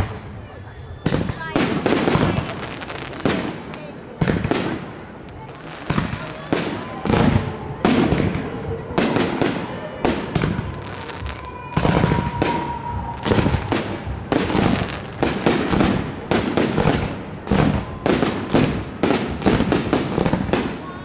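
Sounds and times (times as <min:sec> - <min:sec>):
fireworks bursting in bangs: 0:00.0 - 0:21.0.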